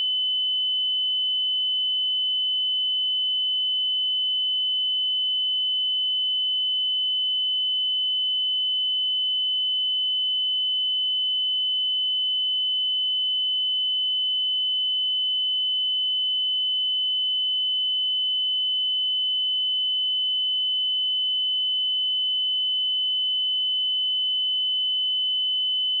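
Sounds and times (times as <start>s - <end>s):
high-pitched sine-wave test tone: 0.0s - 26.0s.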